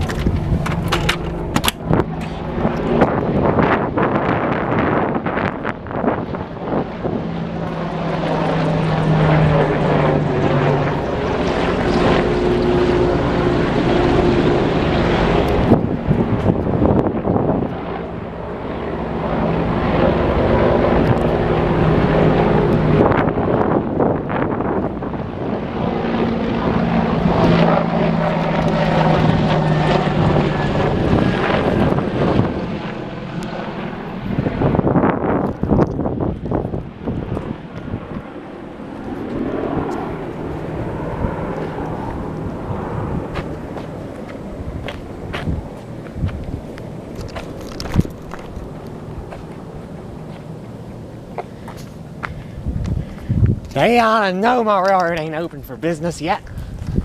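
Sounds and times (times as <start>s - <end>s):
propeller airplane engine drone: 0.0s - 57.0s
wind on microphone: 0.0s - 57.0s.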